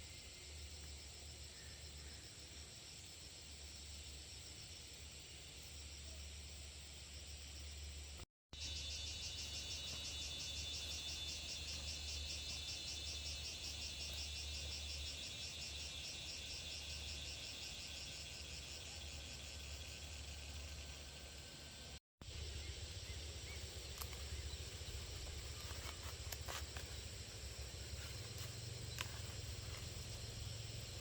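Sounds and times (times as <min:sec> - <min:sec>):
insects chirping trill: 0:00.0 - 0:31.0.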